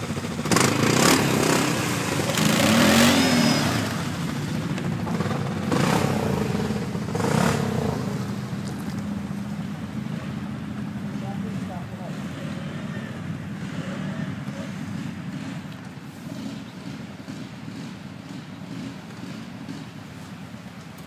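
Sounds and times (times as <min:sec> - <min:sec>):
quad bike engines revving: 0:00.0 - 0:21.0.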